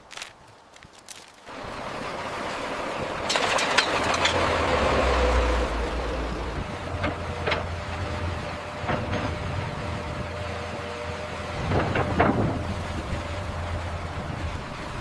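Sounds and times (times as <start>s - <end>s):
heavy machinery rumbling: 1.4s - 15.0s.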